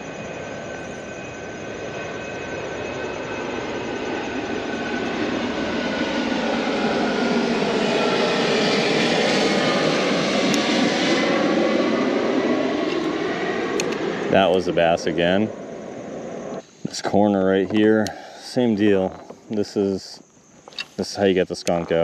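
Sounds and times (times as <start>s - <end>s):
airplane engine roar overhead: 0.0s - 22.0s.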